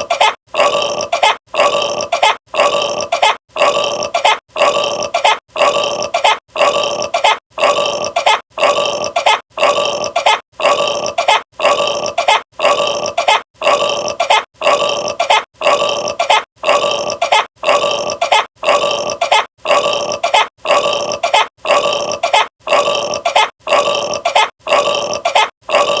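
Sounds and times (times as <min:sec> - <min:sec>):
repeated burp: 0:00.0 - 0:26.0.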